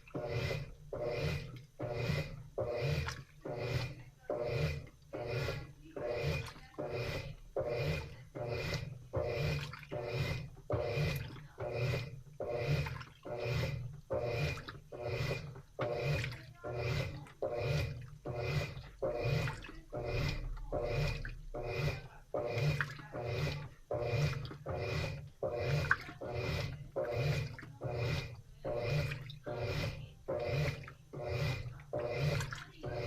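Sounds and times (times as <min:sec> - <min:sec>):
water swishing in washing machine: 0:00.0 - 0:33.0.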